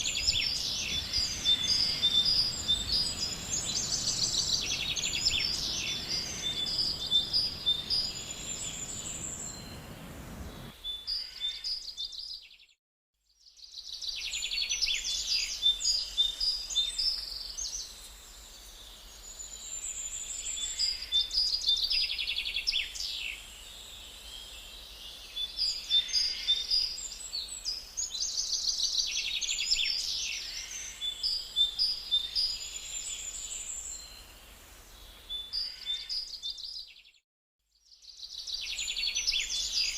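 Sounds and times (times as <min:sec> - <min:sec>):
songbird singing: 0:00.0 - 0:12.8, 0:13.4 - 0:37.2, 0:37.8 - 0:39.9.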